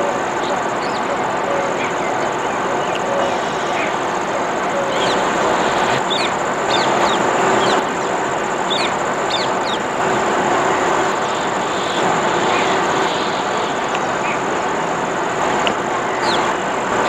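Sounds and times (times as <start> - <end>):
birds chirping: 0.0 - 17.0
high-pitched whine: 0.0 - 17.0
steady rushing noise: 0.0 - 17.0.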